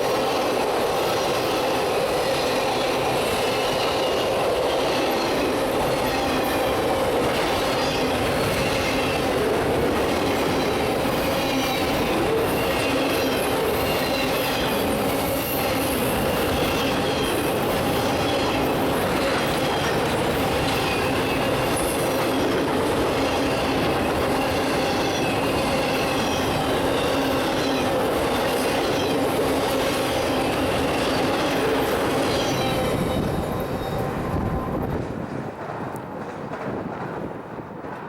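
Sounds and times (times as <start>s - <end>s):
train wheels clacking on rails: 0.0s - 38.0s.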